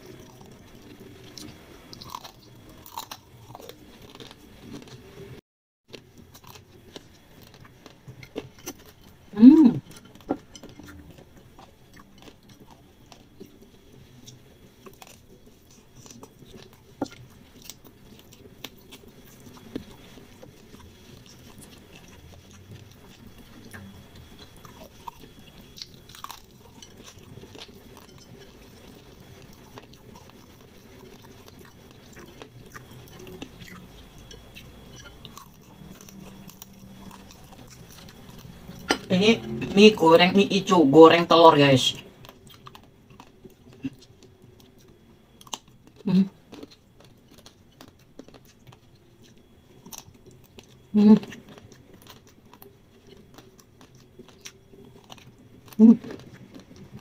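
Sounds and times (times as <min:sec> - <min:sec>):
person chewing noodles: 0:00.0 - 0:40.2, 0:42.0 - 0:57.0.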